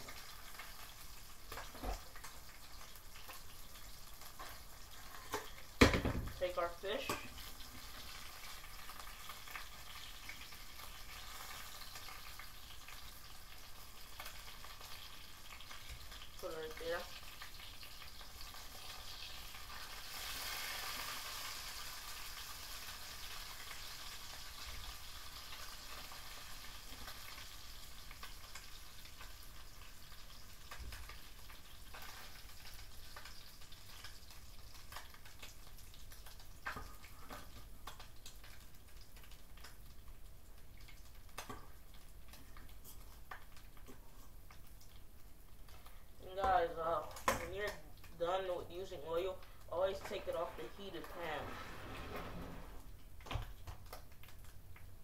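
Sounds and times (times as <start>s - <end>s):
oil sizzling in frying pan: 0.0s - 51.4s, 52.8s - 55.0s.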